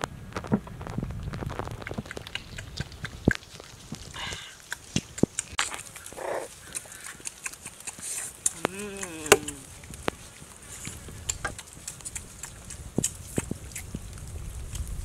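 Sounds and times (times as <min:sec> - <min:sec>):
puppies chewing wetly: 0:01.5 - 0:15.0.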